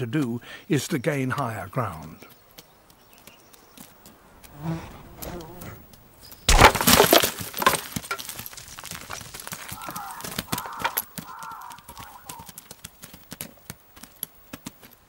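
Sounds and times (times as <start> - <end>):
hooves and stones clicking: 0.0 - 15.0.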